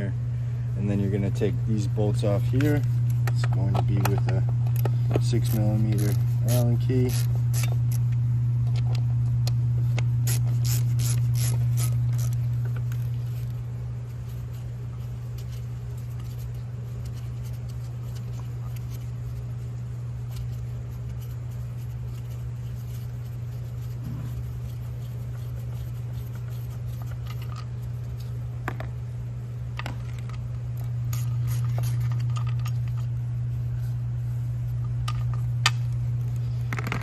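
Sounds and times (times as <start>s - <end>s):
low hum: 0.0s - 37.0s.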